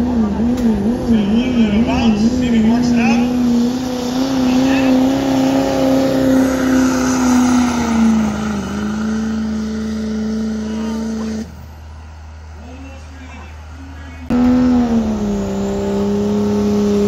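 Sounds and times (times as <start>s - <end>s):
diesel truck engine revving high: 0.0s - 17.0s.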